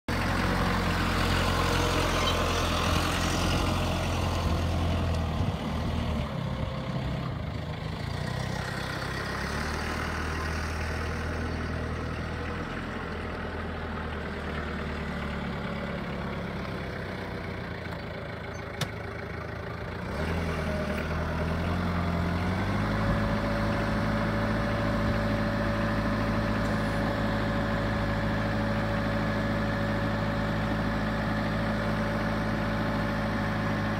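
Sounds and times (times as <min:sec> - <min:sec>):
forklift diesel engine running: 0:00.1 - 0:33.9.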